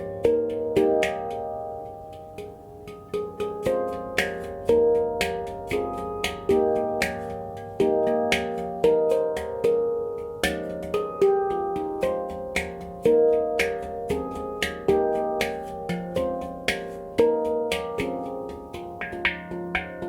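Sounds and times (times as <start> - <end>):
handpan notes ringing: 0.0 - 20.0.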